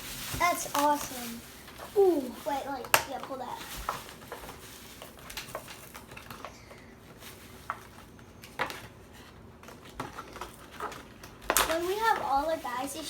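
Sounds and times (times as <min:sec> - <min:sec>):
plastic packaging rattling: 0:00.0 - 0:09.0, 0:09.6 - 0:13.0.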